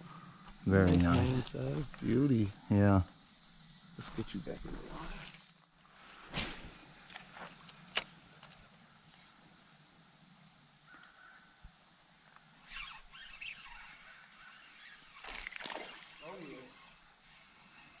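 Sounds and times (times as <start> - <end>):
insects droning high pitch: 0.0 - 18.0
short insect calls: 0.0 - 18.0.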